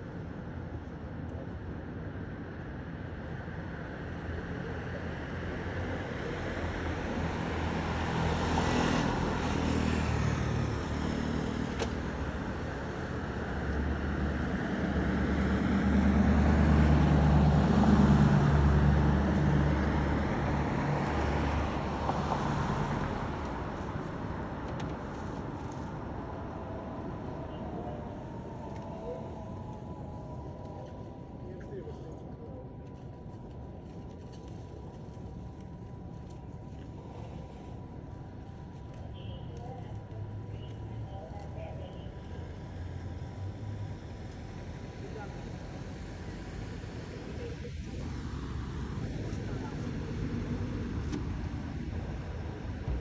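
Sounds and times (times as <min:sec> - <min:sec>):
vehicles passing: 0:04.7 - 0:53.0.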